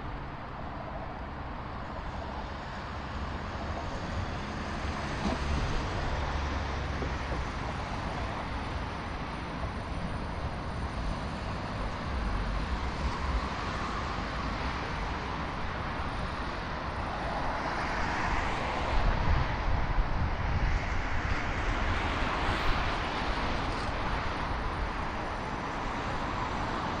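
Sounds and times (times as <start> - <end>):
passing vehicles rush: 0.0 - 27.0.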